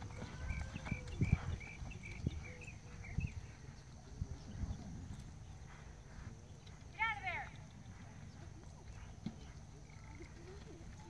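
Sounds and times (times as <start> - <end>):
horse hooves galloping on dirt: 0.0 - 11.0.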